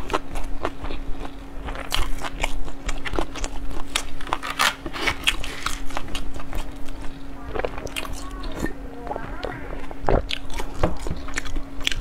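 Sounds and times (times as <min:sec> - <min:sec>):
faint steady hum: 0:00.0 - 0:12.0
person chewing crunchy food: 0:00.0 - 0:12.0.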